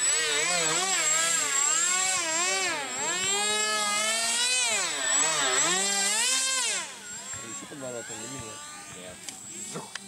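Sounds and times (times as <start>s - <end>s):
model jet motor whining: 0.0s - 10.0s.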